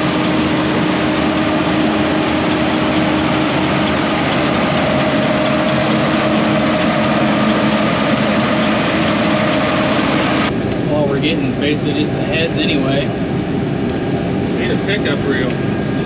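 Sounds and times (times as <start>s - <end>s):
combine engine and machinery drone: 0.0s - 16.0s
steady whine: 0.0s - 16.0s.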